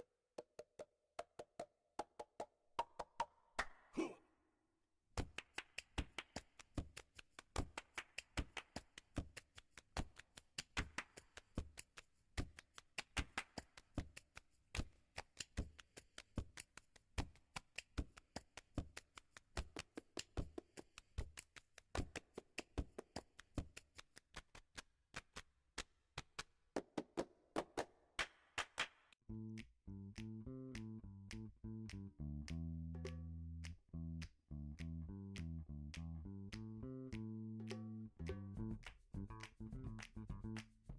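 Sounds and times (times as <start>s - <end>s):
rapid percussive taps: 5.2s - 40.9s.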